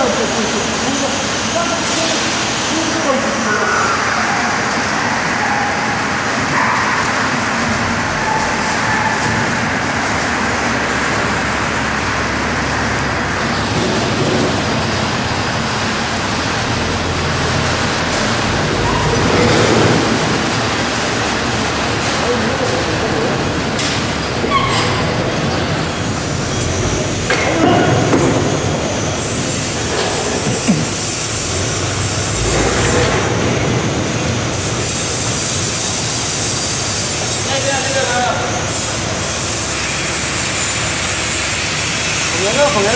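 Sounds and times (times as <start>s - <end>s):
heavy factory machinery rumble: 0.0s - 42.9s.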